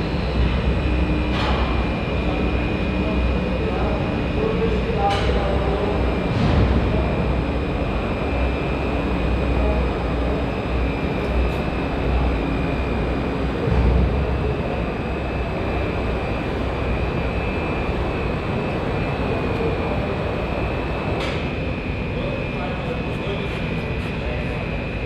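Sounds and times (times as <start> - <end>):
machinery high whine: 0.0 - 25.0
machinery low rumble: 0.0 - 25.0.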